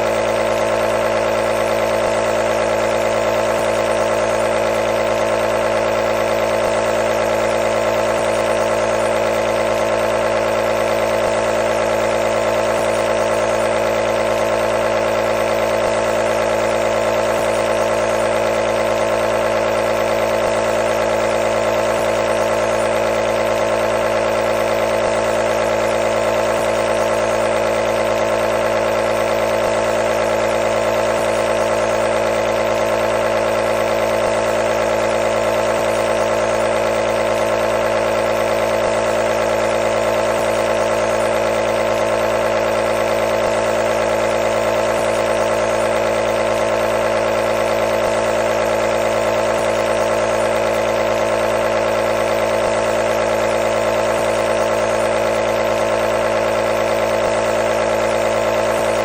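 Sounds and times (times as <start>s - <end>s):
nebulizer motor hum: 0.0s - 59.0s.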